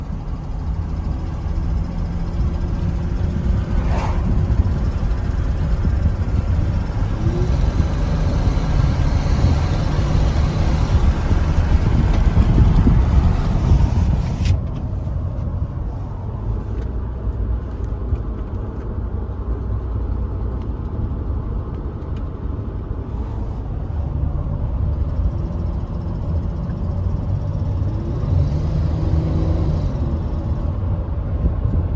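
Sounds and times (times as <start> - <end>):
engine running with a misfire: 0.0 - 31.9.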